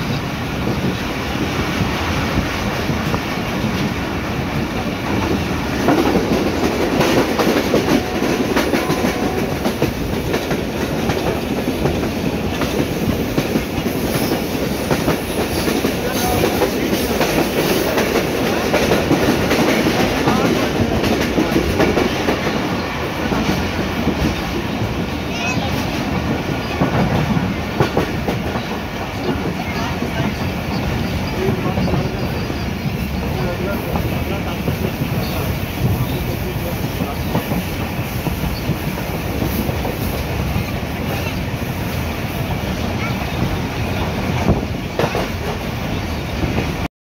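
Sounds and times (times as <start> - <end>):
rails clickety-clack: 0.0 - 46.9
train wheels rumbling: 0.0 - 46.9.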